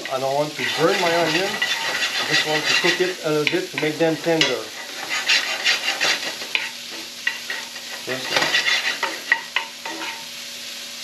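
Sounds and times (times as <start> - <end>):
onions sizzling in a frying pan: 0.0 - 11.0
spoon scraping and tapping a pan: 0.6 - 10.3.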